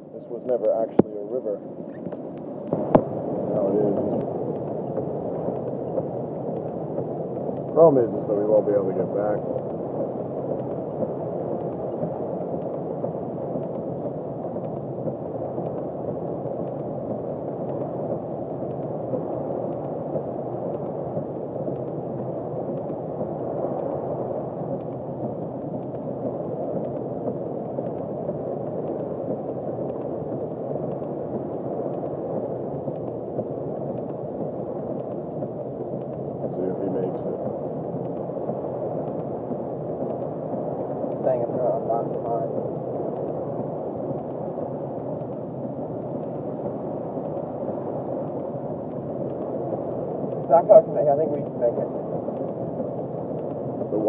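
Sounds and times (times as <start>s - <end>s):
ticks of single raindrops: 0.3s - 54.0s
heavy rain on car roof: 2.2s - 54.0s.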